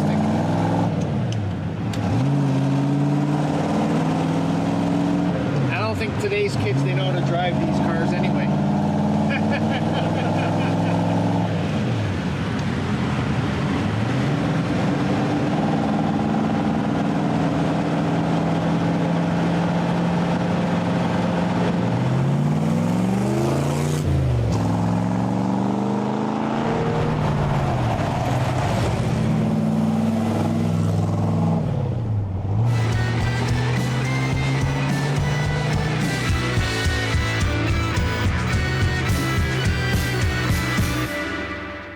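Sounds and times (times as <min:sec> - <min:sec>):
car engine accelerating and shifting: 0:00.0 - 0:41.9.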